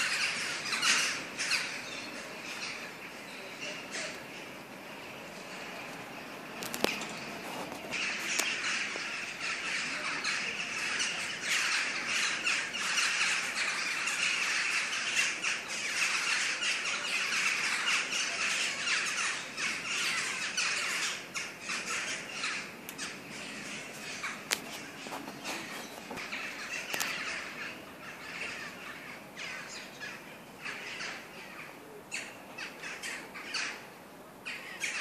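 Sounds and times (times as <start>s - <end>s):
flock of birds calling: 0.0s - 35.0s.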